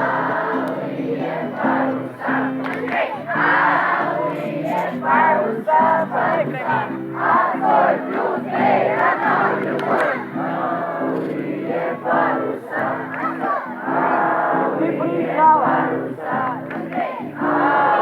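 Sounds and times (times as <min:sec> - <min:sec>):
children shouting and singing: 0:00.0 - 0:18.0.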